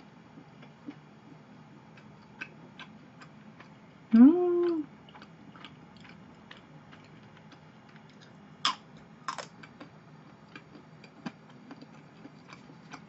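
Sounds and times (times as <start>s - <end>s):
quiet chewing with mouth clicks: 0.6s - 8.8s, 9.4s - 13.0s.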